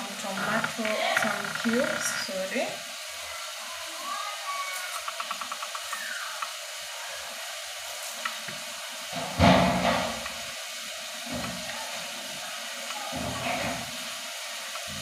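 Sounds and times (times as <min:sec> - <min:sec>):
tomatoes sizzling in a pot: 0:00.0 - 0:15.0.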